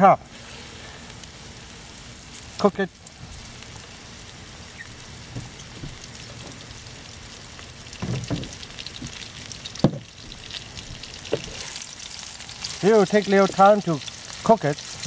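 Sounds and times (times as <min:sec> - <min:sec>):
fish sizzling in hot oil: 0:00.3 - 0:15.0.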